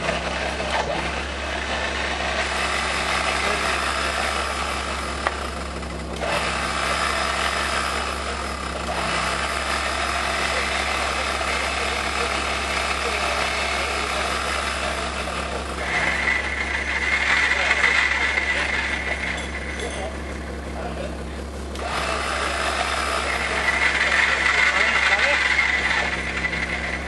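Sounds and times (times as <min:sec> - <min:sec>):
engine running at low revs: 0:00.0 - 0:27.0.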